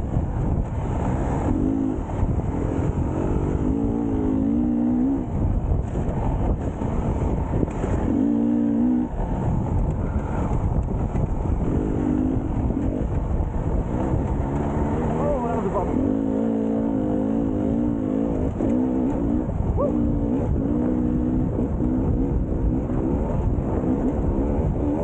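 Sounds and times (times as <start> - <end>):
motorbike engine revving: 0.3 - 25.0.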